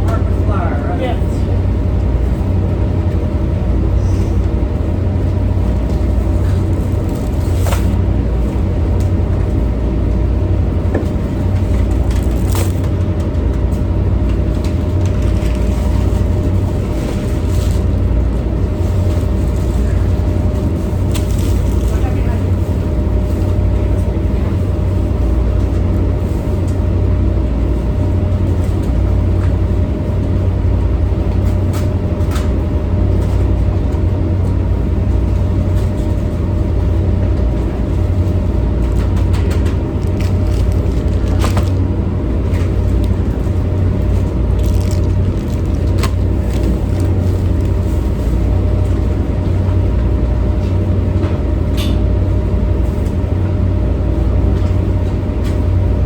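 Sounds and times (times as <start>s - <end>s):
diesel machinery rumble: 0.0s - 56.0s.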